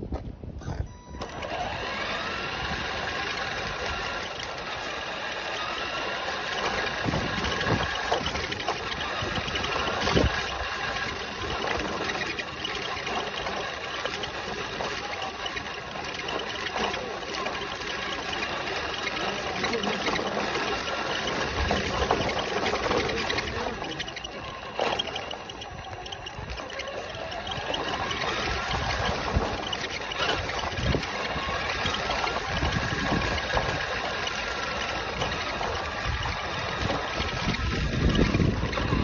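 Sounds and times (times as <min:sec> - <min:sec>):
tyres and chassis rattling: 0:00.0 - 0:39.0
thin motor whine: 0:00.6 - 0:39.0.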